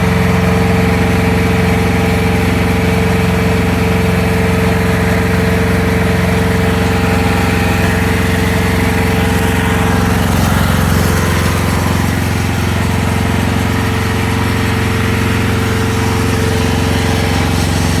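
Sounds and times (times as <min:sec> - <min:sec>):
mini excavator engine running: 0:00.0 - 0:18.0.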